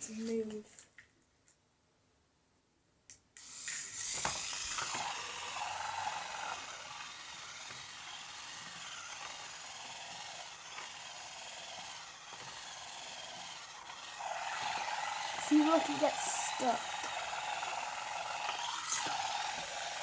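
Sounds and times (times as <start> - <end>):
toy motor whirring: 3.4 - 20.0.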